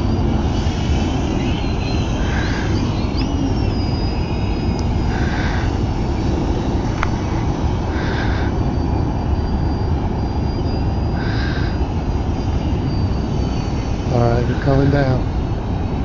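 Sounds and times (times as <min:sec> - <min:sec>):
model plane motor whine: 0:00.0 - 0:16.0
wind rumble on microphone: 0:00.0 - 0:16.0.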